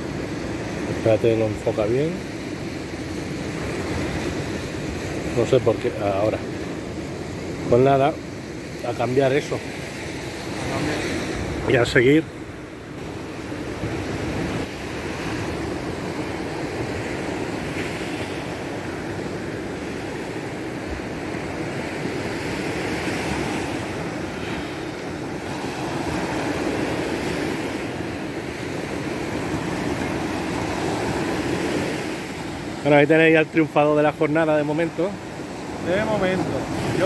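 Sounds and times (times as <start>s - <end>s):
sea surf rushing: 0.0s - 37.0s
wind: 0.0s - 37.0s.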